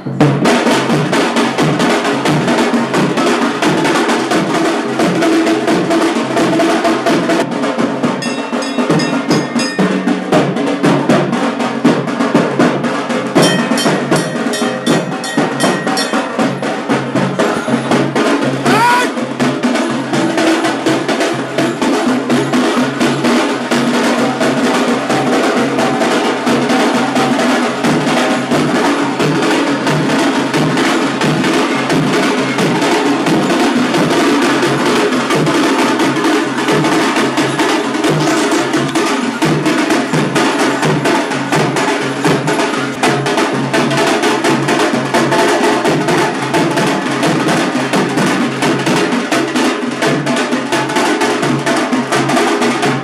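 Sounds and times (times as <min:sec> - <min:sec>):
drum band playing barrel drums: 0:00.0 - 0:53.0.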